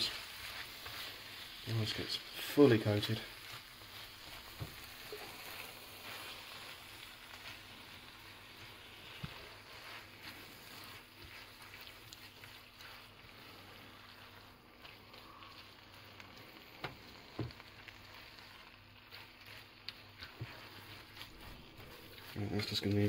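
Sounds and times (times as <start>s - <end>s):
food sizzling in frying pan: 0.0s - 23.0s.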